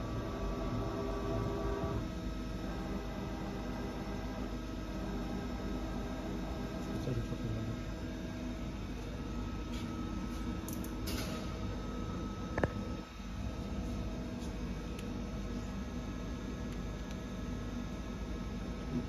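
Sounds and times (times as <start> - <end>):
machining center humming: 0.0 - 19.0.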